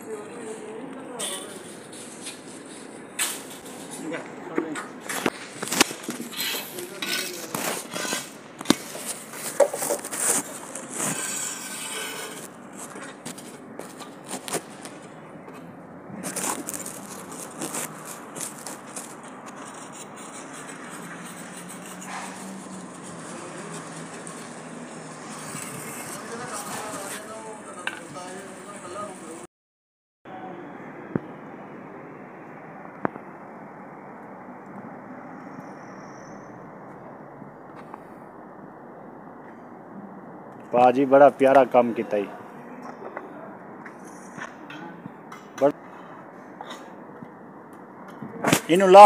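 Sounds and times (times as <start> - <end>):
steady background noise: 0.0 - 29.5, 30.3 - 49.0.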